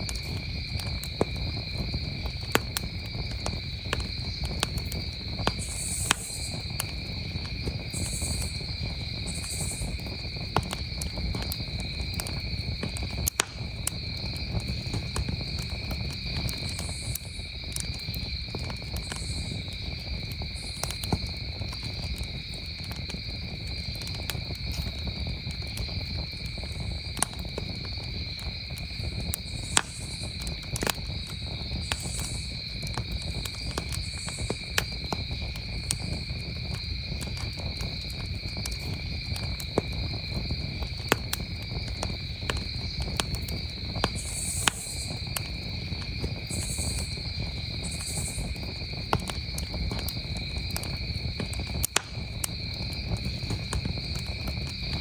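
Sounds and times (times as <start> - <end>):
campfire crackling and popping: 0.0 - 55.0
crickets trilling: 0.0 - 55.0.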